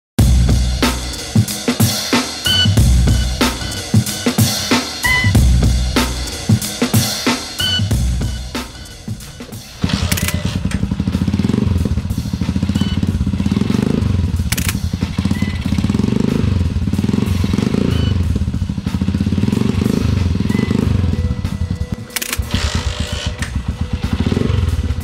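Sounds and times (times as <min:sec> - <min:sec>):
motorcycle engine idling and revving: 0:00.2 - 0:25.0.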